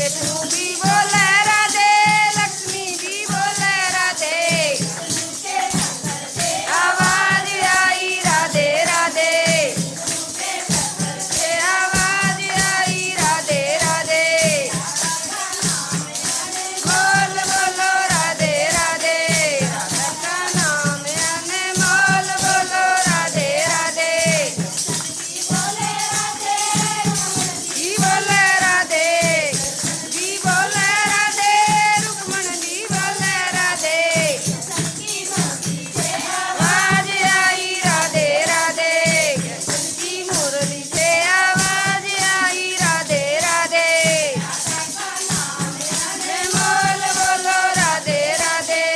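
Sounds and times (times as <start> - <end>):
jingling rattling percussion: 0.0 - 48.9
person singing devotional song: 0.0 - 48.9.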